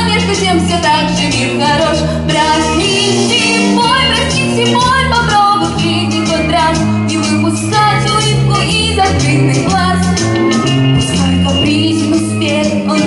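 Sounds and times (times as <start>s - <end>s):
girl singing into a microphone: 0.0s - 10.2s, 11.0s - 13.0s
pop backing track: 0.0s - 13.0s.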